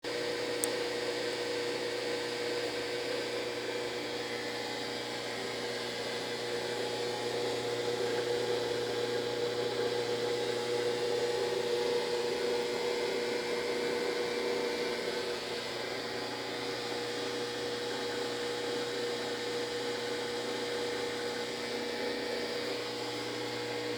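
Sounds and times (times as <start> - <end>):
washing machine humming whine: 0.0 - 23.9.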